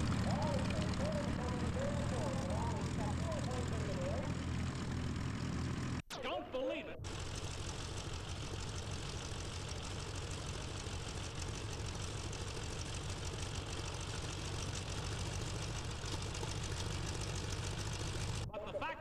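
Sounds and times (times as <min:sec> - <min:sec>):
propeller plane engine running: 0:00.0 - 0:06.0, 0:07.0 - 0:18.6.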